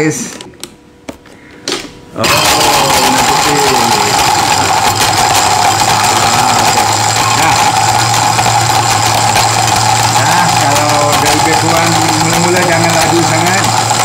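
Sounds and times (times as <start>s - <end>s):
deeper hum: 2.1s - 14.0s
blender crushing ice: 2.2s - 14.0s.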